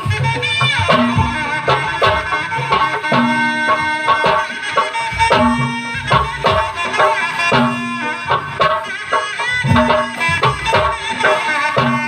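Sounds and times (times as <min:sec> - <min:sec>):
barrel drums beating quick rhythm: 0:00.0 - 0:12.0
shawm melody: 0:00.0 - 0:12.0.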